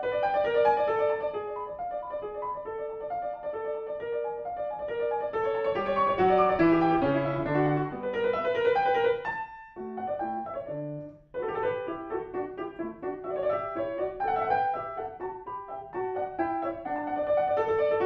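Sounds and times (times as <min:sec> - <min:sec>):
grand piano playing: 0:00.0 - 0:18.0.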